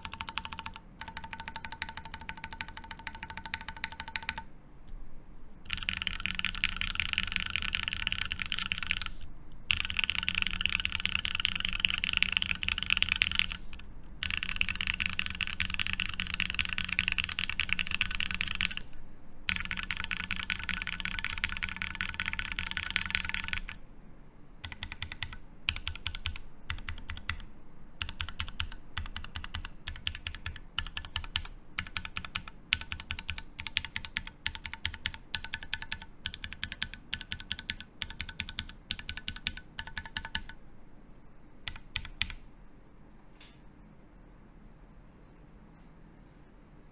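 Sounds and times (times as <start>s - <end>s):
mechanical keyboard typing: 0.0s - 4.5s, 5.7s - 18.9s, 19.5s - 23.8s, 24.6s - 40.6s, 41.6s - 42.4s.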